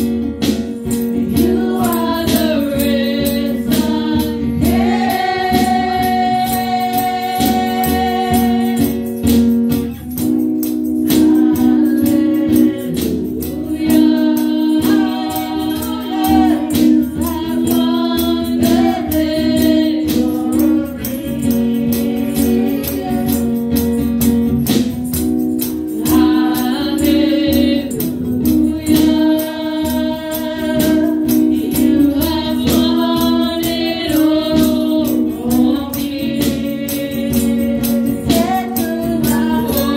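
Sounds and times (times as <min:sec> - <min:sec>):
steady percussion beat: 0:00.0 - 0:39.9
woman singing into microphone: 0:00.9 - 0:09.3, 0:11.0 - 0:24.0, 0:25.9 - 0:39.9.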